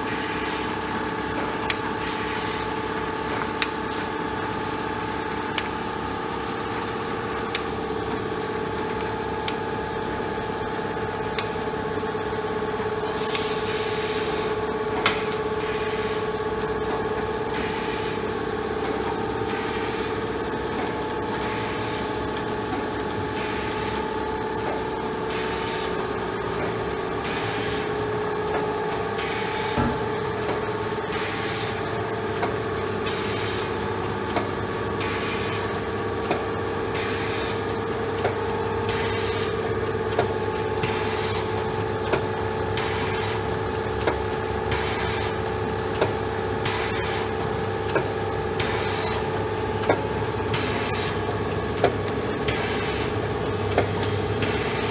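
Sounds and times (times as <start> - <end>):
machine motor hum: 0.0 - 54.9.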